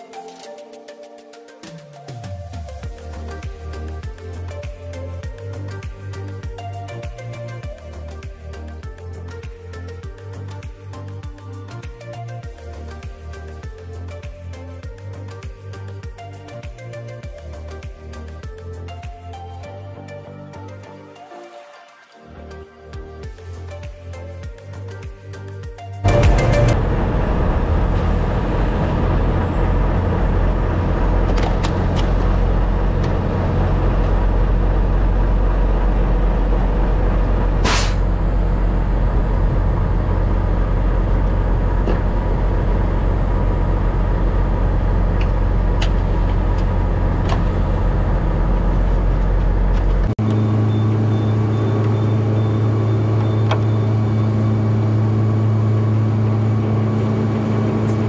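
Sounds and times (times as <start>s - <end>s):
truck engine and road noise: 2.1s - 21.0s, 22.3s - 58.0s.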